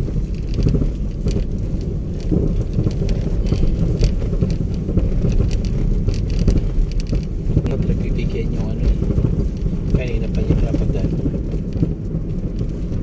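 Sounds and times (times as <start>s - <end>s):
rattles and knocks: 0.0s - 13.0s
vehicle cabin rumble: 0.0s - 13.0s.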